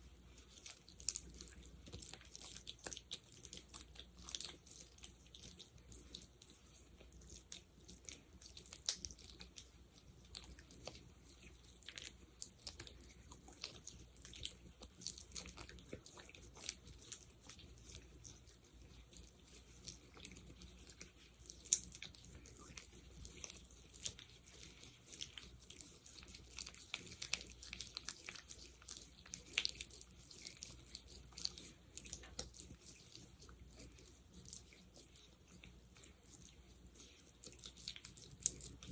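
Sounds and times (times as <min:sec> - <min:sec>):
fingers squishing thick gel: 0:00.0 - 0:38.9.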